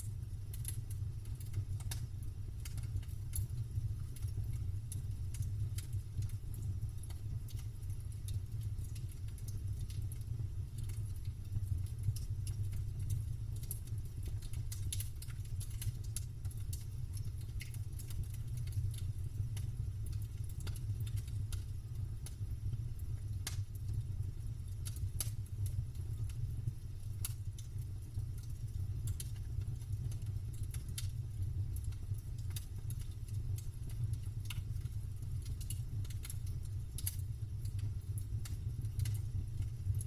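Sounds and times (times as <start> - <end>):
burning wood popping and snapping: 0.0 - 40.0
campfire crackling: 0.0 - 40.0.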